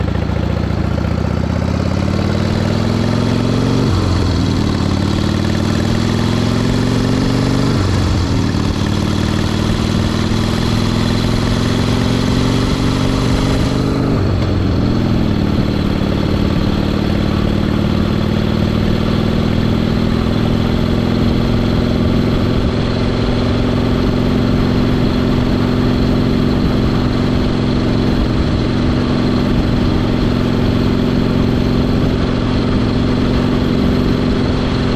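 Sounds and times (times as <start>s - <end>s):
motorcycle engine shifting gears: 0.0s - 34.9s.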